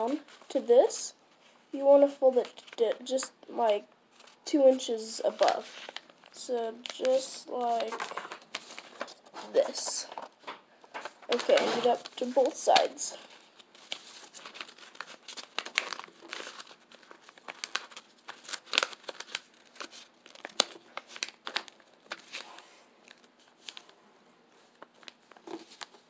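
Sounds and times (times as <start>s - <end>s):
paper rustling and crinkling: 4.1s - 26.0s.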